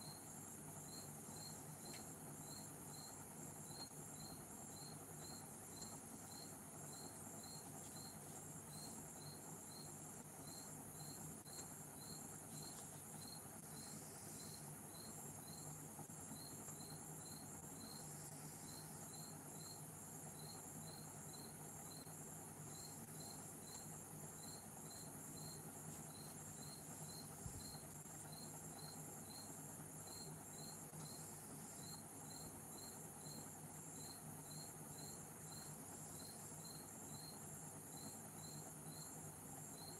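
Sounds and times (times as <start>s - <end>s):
cricket chirping: 0.0s - 39.9s
faint low hum: 0.0s - 39.9s.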